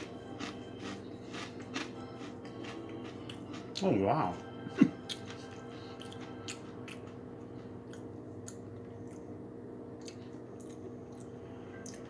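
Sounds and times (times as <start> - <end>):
chewing crunchy chips: 0.0 - 7.2, 7.8 - 12.0
steady low hum: 0.0 - 12.0.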